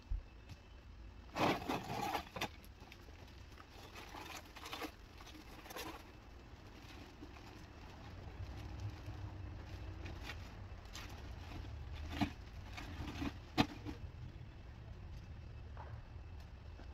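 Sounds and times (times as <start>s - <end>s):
rustling and scraping debris: 0.4s - 16.9s.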